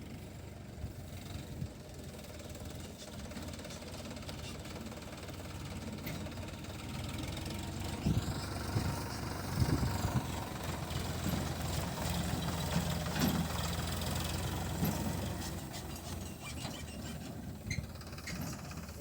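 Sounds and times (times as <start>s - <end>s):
tractor engine running: 0.0s - 19.0s
engine knocks: 2.2s - 19.0s.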